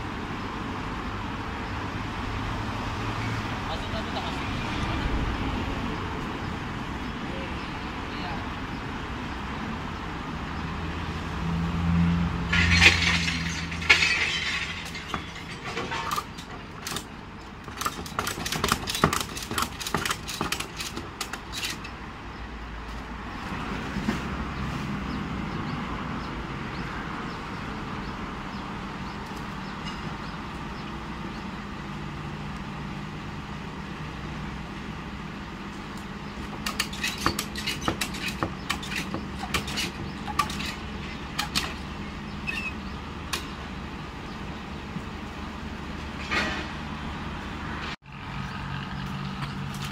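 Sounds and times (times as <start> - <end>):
vehicle engine hum: 0.0 - 49.9.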